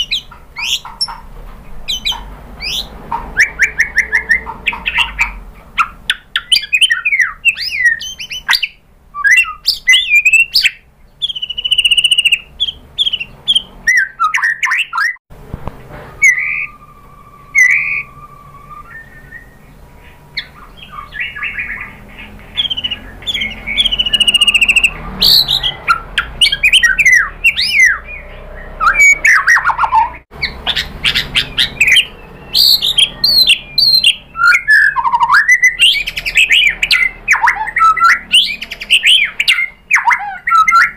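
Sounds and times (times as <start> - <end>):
songbird singing varied whistles: 1.9 - 15.2, 16.2 - 40.9.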